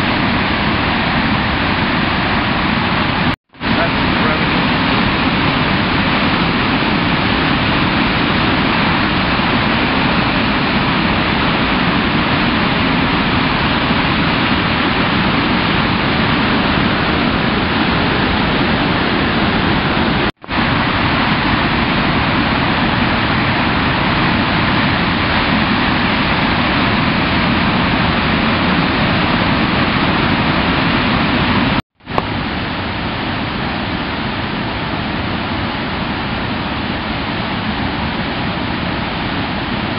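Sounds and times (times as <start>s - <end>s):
river rushing through rapids: 0.0s - 39.9s.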